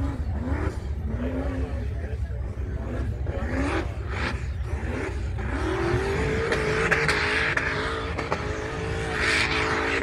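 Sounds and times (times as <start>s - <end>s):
buggy engine revving: 0.0s - 10.0s.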